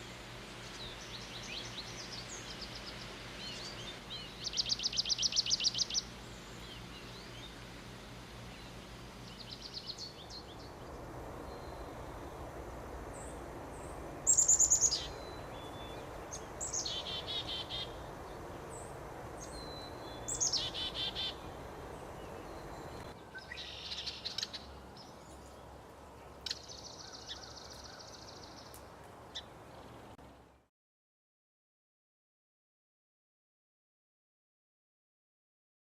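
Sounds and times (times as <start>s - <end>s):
songbirds singing: 0.0s - 30.6s
steady background hiss: 0.0s - 30.7s.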